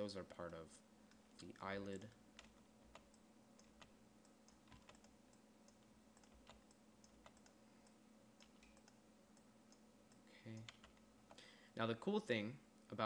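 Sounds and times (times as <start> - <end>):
faint electrical hum: 0.0 - 13.0
keyboard and mouse clicks: 0.3 - 11.4.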